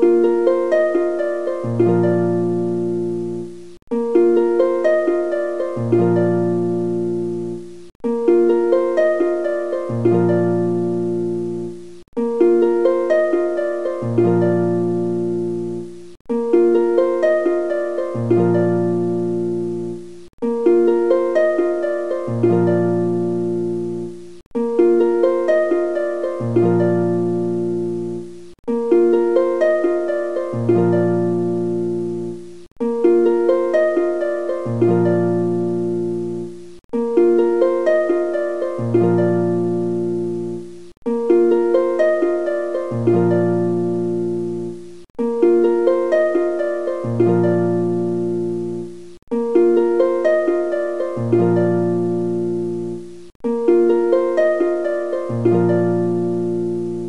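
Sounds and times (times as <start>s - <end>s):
plucked-string tune: 0.0s - 57.0s.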